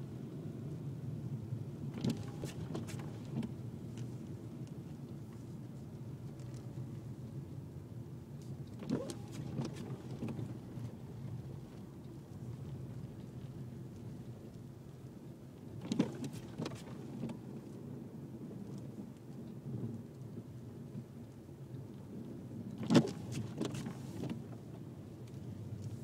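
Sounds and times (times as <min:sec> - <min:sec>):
engine and tyres rumbling: 0:01.3 - 0:19.1, 0:22.2 - 0:26.0.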